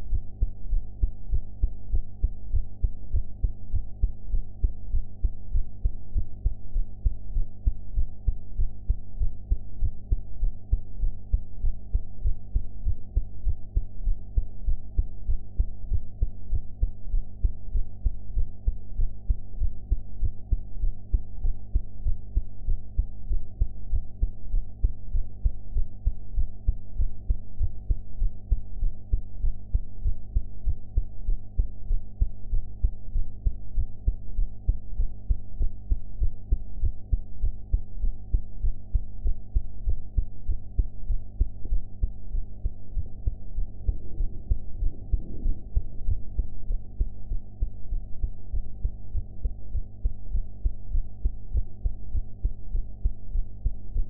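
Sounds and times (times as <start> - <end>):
heart beating: 0.0 - 54.0
steady low hum: 0.0 - 54.0.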